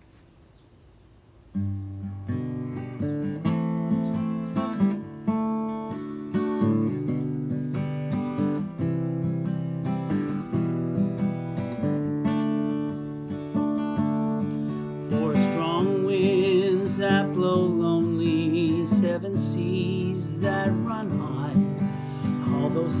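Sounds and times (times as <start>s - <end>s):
acoustic guitar strumming chords: 1.6s - 23.0s.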